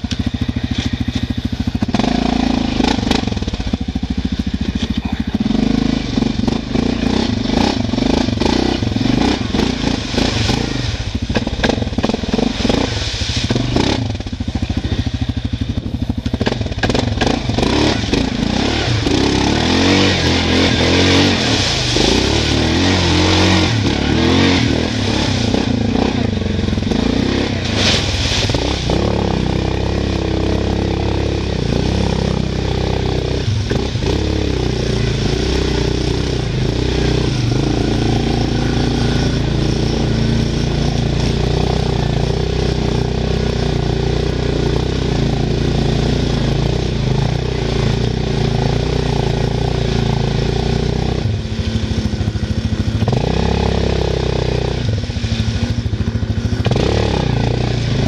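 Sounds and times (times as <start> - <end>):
mud and water splashing: 0.0 - 58.0
quad engine revving: 0.0 - 58.0.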